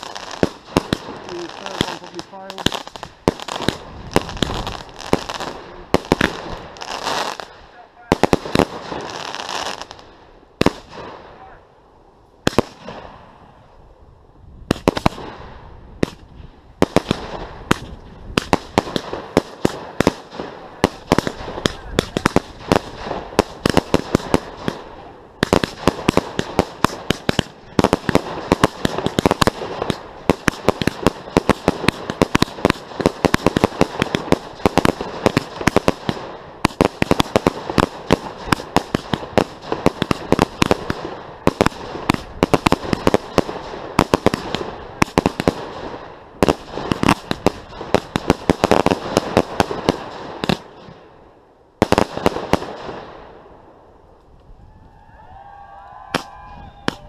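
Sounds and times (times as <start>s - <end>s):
fireworks cracking and banging: 0.0s - 11.6s, 12.4s - 13.5s, 14.6s - 51.1s, 51.8s - 53.4s, 56.1s - 57.0s.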